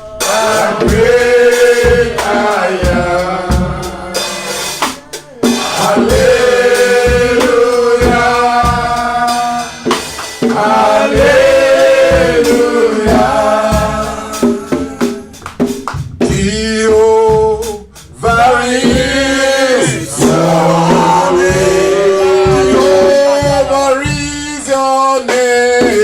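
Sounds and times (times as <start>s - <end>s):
man singing: 0.0s - 15.4s, 16.2s - 26.0s
band playing: 0.0s - 26.0s
drums beating: 0.0s - 26.0s.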